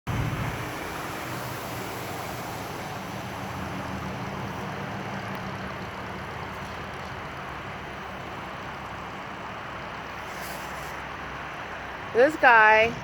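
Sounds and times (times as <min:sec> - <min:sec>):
road and wind noise: 0:00.0 - 0:13.0
vehicle engine hum: 0:00.0 - 0:13.0.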